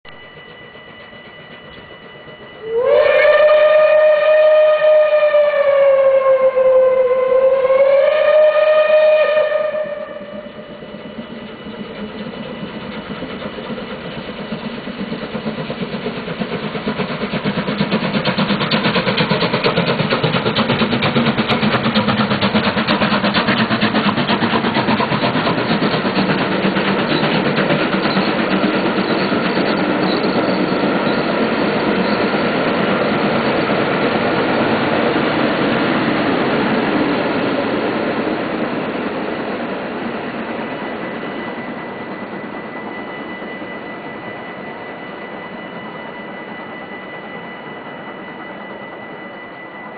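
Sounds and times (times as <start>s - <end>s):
train passing: 0.1s - 49.9s.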